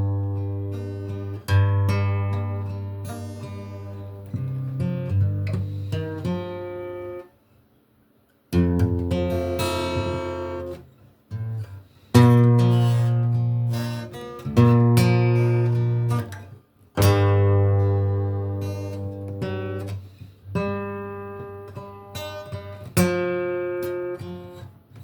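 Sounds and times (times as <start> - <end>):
acoustic guitar strumming chords: 0.0 - 7.3, 8.5 - 25.0.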